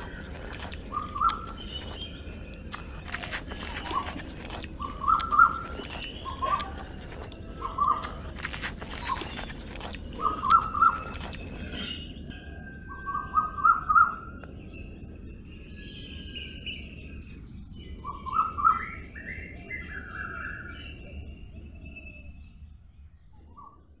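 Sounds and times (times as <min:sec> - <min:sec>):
low outdoor rumble: 0:00.0 - 0:23.4.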